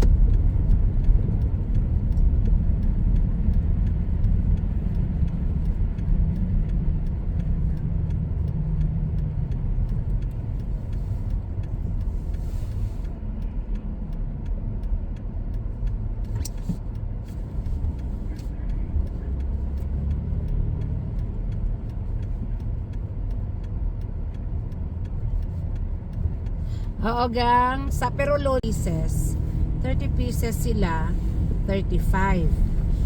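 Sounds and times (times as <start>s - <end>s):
car engine and road noise rumble: 0.0s - 33.0s.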